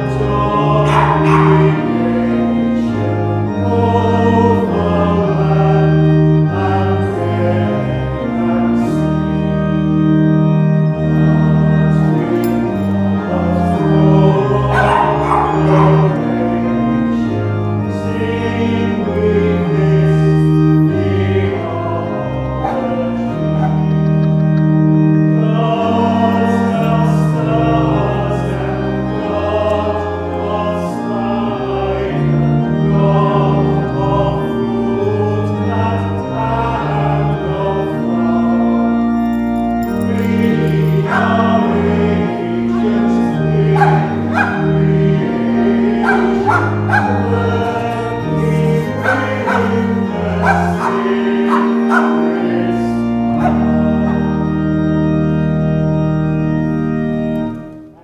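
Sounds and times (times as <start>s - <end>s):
congregation singing a hymn: 0.0s - 58.0s
pipe organ chords: 0.0s - 58.0s.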